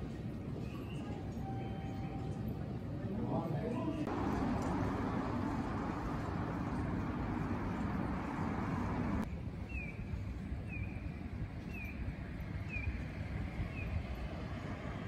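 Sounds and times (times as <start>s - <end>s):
low street rumble: 0.0s - 15.0s
outdoor traffic noise: 0.0s - 15.0s.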